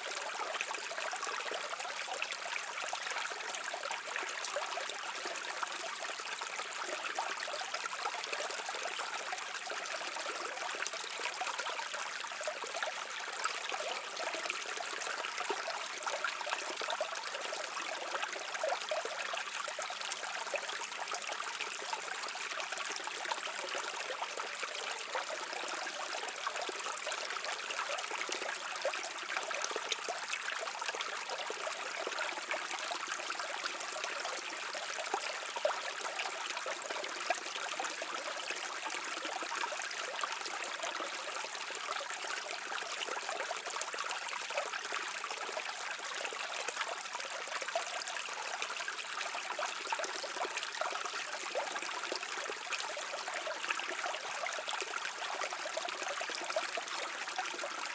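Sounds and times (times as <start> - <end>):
brook water over rocks: 0.0 - 57.9.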